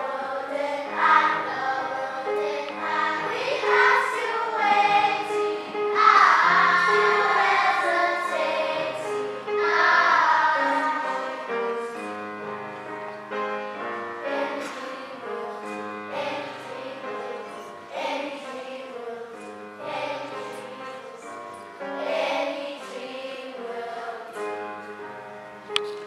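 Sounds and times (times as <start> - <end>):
children's choir singing: 0.0 - 25.9.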